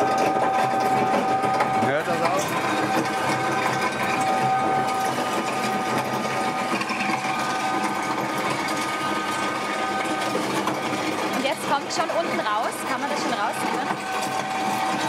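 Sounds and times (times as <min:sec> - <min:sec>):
electric mill whining: 0:00.0 - 0:15.0.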